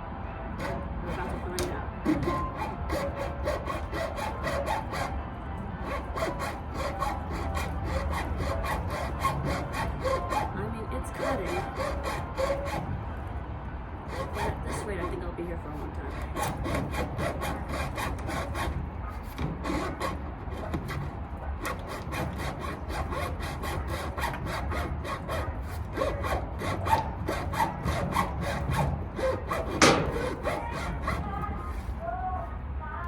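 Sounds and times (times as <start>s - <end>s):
hacksaw cutting plastic pipe: 0.6s - 5.2s, 5.8s - 12.9s, 14.1s - 31.8s.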